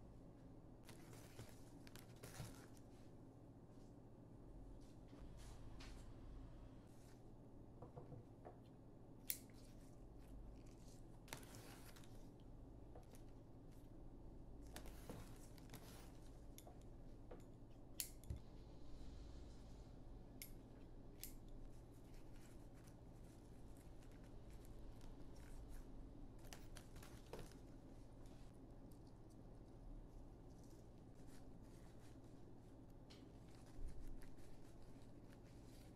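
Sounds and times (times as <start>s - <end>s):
low steady hum: 0.0s - 35.9s
soft handling noises: 0.2s - 35.9s.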